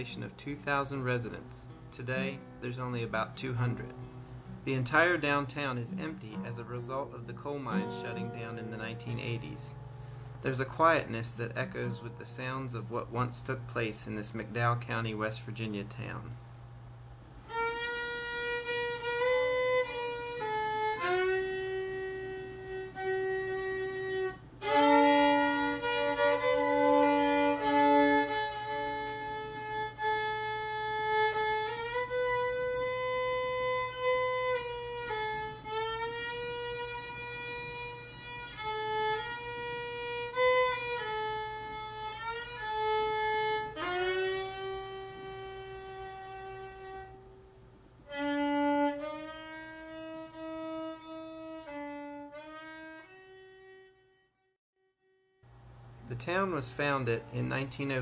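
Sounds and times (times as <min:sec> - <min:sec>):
slow violin melody: 0:01.7 - 0:12.2, 0:17.4 - 0:55.4.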